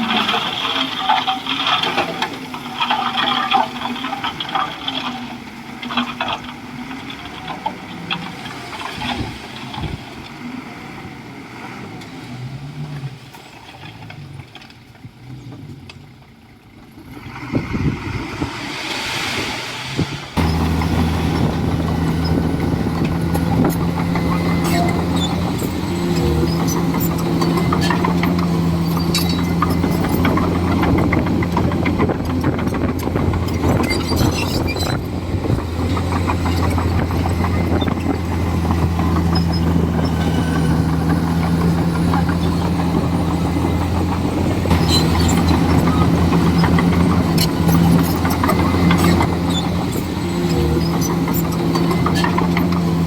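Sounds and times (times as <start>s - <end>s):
bulldozer diesel engine running: 0.0s - 18.8s, 19.8s - 53.0s.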